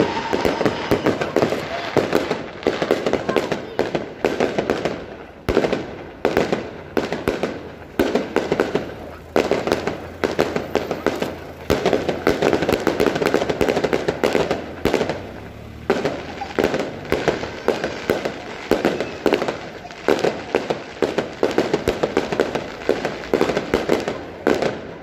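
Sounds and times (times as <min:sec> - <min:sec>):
fireworks cracking bangs: 0:00.0 - 0:25.0.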